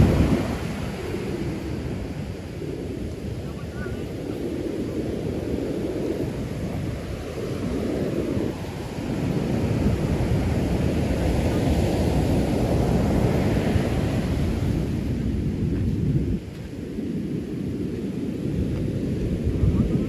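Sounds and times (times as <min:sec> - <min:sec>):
surf breaking on shore: 0:00.0 - 0:20.0
wind buffeting microphone: 0:00.0 - 0:20.0.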